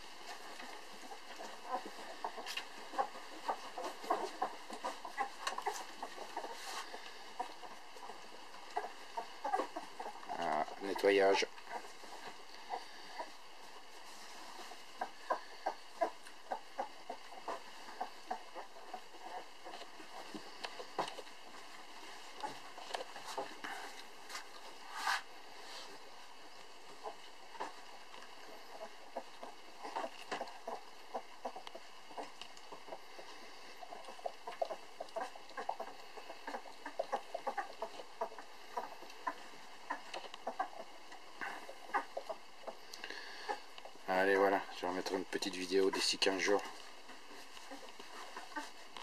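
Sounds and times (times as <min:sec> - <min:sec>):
puppies suckling: 0:00.0 - 0:49.0.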